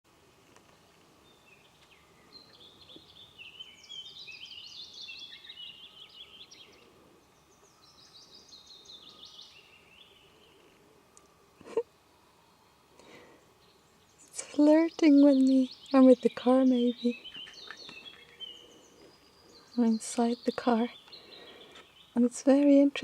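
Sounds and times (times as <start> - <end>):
songbird chirps and trills: 0.6 - 23.0.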